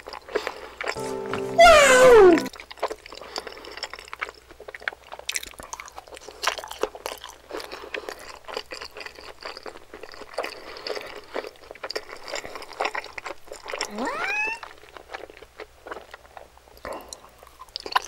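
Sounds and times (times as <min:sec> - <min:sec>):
person chewing food: 0:00.0 - 0:01.0, 0:02.8 - 0:13.9, 0:14.6 - 0:18.0.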